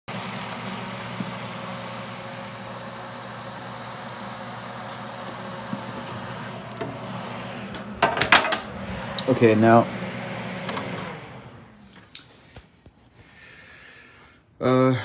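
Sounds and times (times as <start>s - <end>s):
fan humming: 0.1s - 13.6s.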